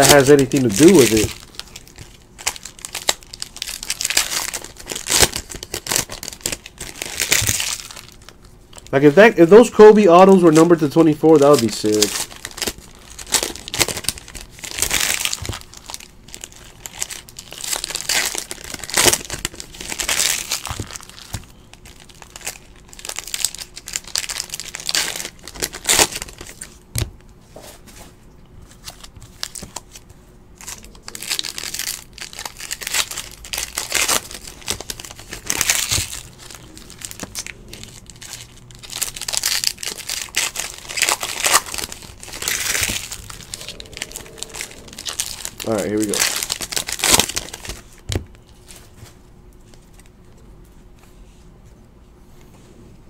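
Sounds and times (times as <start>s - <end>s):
foil wrappers crinkling and tearing: 0.0s - 27.1s, 28.6s - 50.4s.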